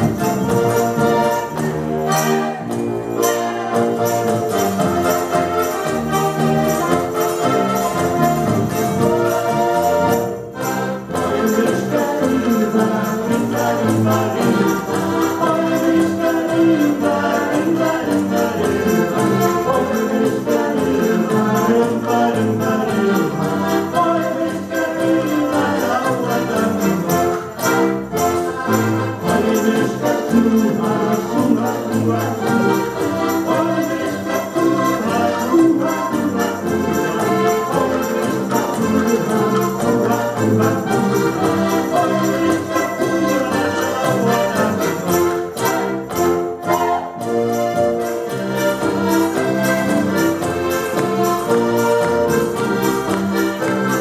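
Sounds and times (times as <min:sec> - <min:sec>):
accordions playing a polka: 0:00.0 - 0:54.0
piano accompaniment: 0:00.0 - 0:54.0.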